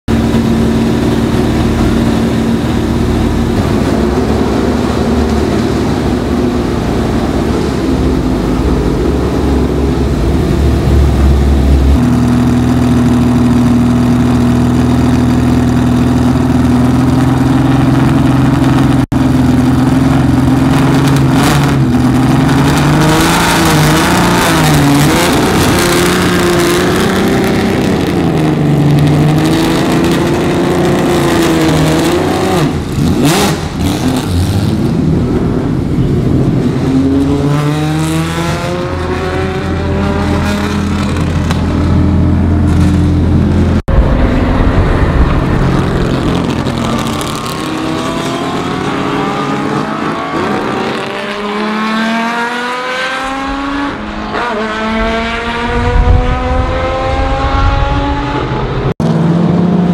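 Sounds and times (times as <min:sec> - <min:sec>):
car engine idling and revving: 0:00.1 - 0:59.9.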